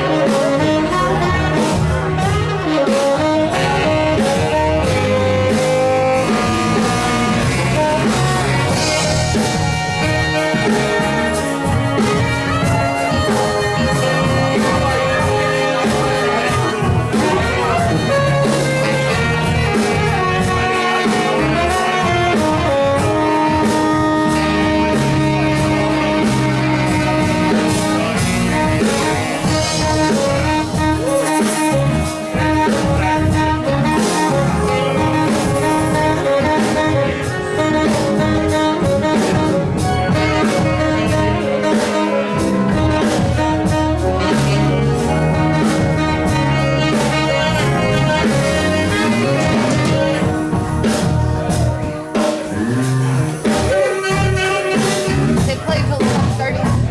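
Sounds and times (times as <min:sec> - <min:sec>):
bass: 0:00.0 - 0:56.9
drums: 0:00.0 - 0:56.9
electric guitar: 0:00.0 - 0:56.9
keyboards: 0:00.0 - 0:56.9
saxophone: 0:00.0 - 0:56.9.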